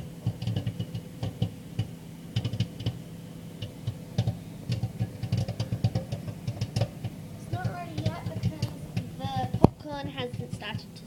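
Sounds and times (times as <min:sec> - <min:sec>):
microwave oven humming: 0:00.0 - 0:11.0
popcorn popping in bag: 0:00.0 - 0:11.0.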